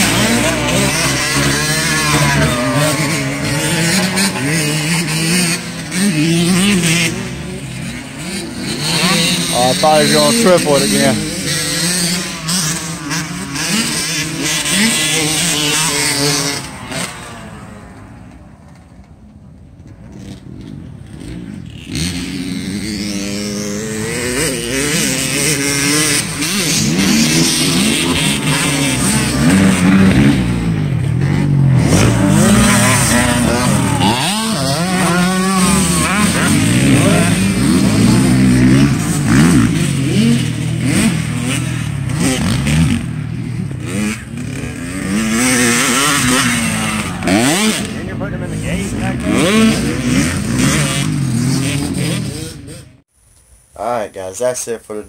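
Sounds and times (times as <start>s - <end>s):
dirt bike engines revving: 0.0s - 53.1s.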